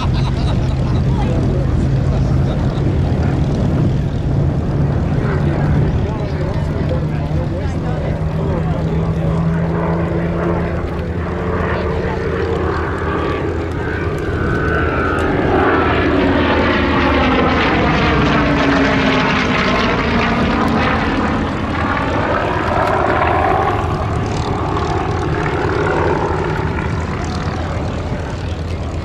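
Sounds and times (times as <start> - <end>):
propeller aircraft engines passing: 0.0 - 29.0.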